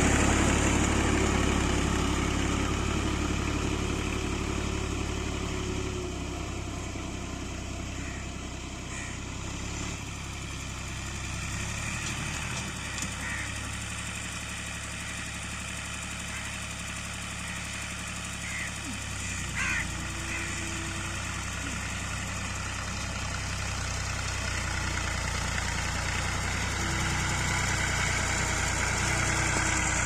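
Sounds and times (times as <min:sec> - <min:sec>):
diesel tractor engine idling: 0:00.0 - 0:30.0.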